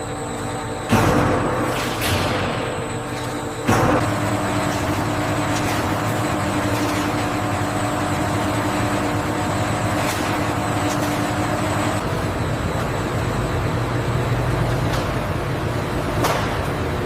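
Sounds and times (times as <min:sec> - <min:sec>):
machinery humming with held tones: 0:00.0 - 0:17.0.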